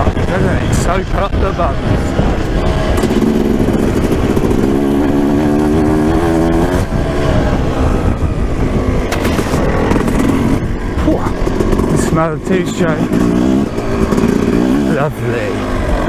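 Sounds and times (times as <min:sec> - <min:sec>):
two-stroke motorcycle engine: 0:00.0 - 0:16.0.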